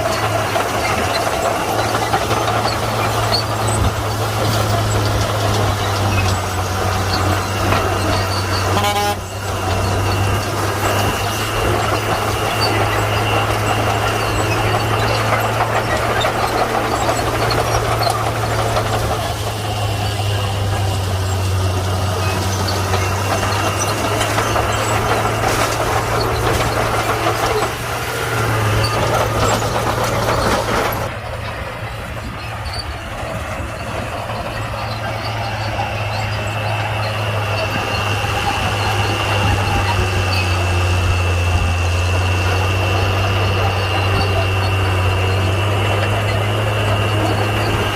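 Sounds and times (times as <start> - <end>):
bulldozer diesel engine under load: 0.0 - 47.9.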